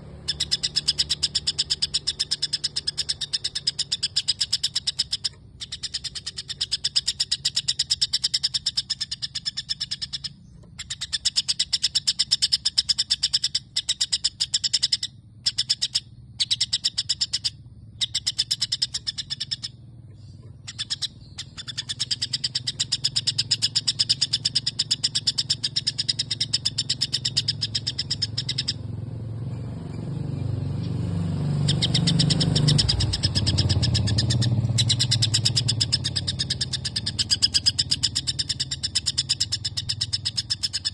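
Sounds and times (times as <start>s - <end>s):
bird chirping song: 0.0s - 40.9s.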